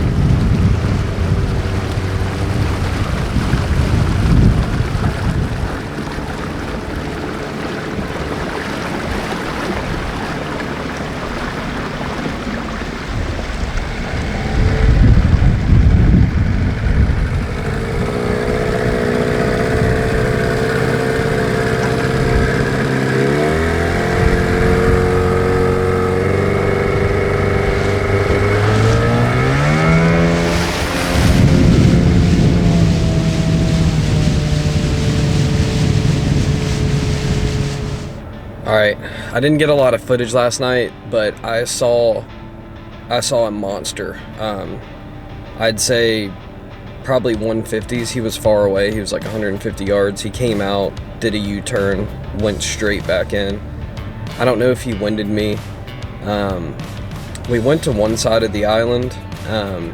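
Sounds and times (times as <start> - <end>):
boat motor running: 0.0 - 59.9
water noise: 0.0 - 59.9
wind: 0.0 - 59.9.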